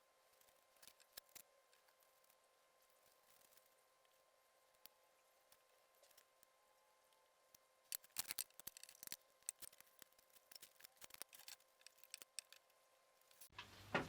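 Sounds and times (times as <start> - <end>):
faint hum: 0.0 - 14.0
small parts clicking and tapping: 0.3 - 6.5, 7.5 - 13.5.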